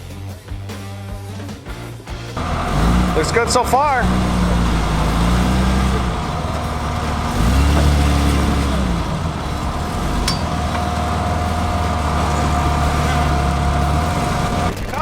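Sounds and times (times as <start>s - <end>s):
rock crawler engine revving: 1.2s - 15.0s.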